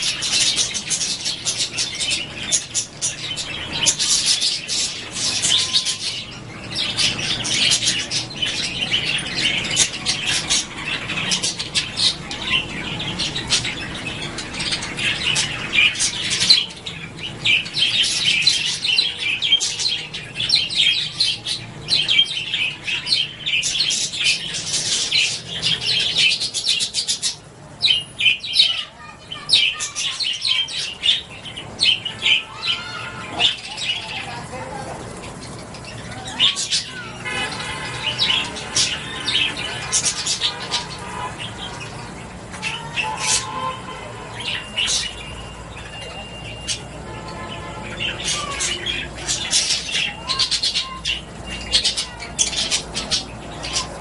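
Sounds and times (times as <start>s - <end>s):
parrots chattering: 0.0s - 54.0s.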